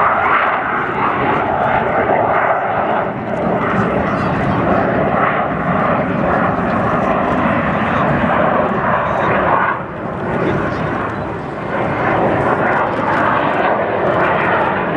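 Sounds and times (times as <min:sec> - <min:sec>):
fighter jet engines roaring: 0:00.0 - 0:14.9.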